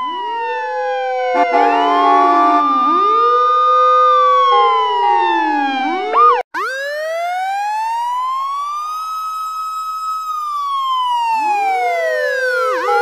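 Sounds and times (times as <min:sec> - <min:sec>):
emergency siren wailing: 0:00.0 - 0:13.0
lower siren tone: 0:00.0 - 0:13.0.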